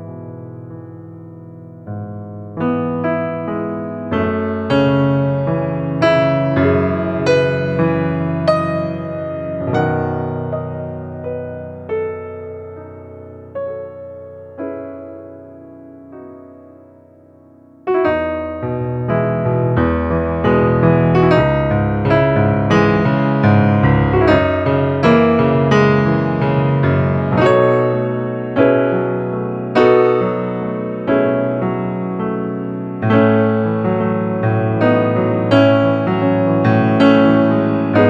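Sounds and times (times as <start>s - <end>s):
slow calm piano music: 0.0s - 38.0s.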